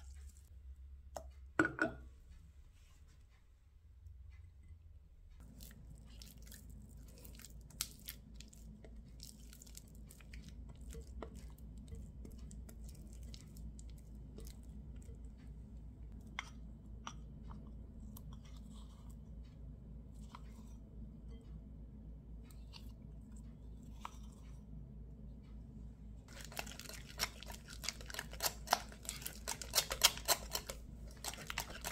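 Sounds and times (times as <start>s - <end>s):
faint low hum: 0.0s - 31.9s.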